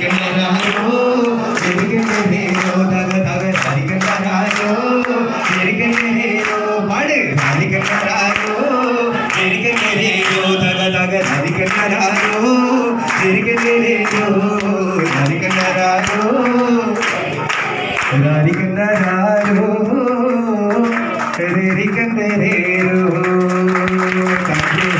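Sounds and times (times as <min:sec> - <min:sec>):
group of voices singing along: 0:00.0 - 0:24.9
man singing into a microphone: 0:00.0 - 0:24.9.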